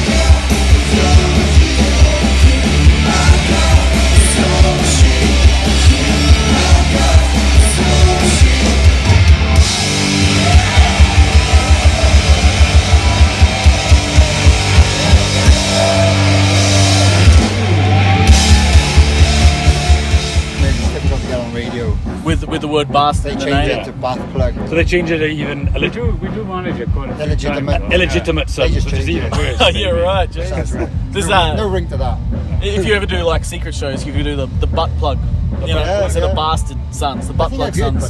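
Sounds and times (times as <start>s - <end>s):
hard rock music: 0.0s - 38.0s.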